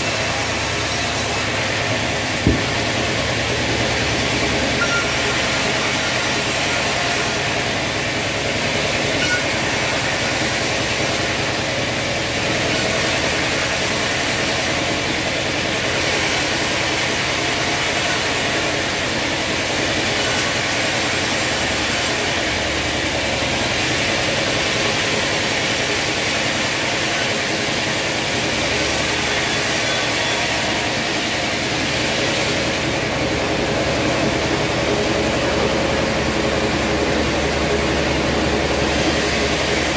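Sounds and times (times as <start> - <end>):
band saw machine hum: 0.0 - 39.9
saw cutting wooden boards: 0.0 - 39.9.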